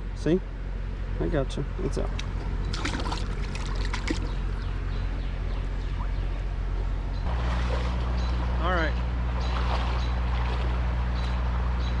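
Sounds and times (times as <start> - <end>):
creek water trickling: 2.2 - 11.9.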